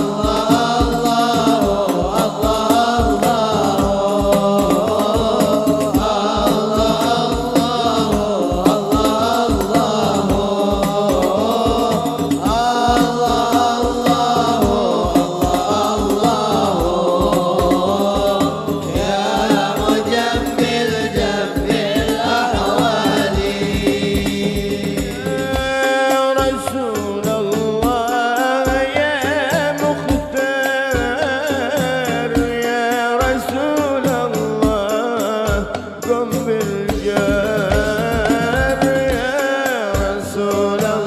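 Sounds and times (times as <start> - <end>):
frame drums and bass drums: 0.0 - 41.0
person singing: 0.0 - 41.0.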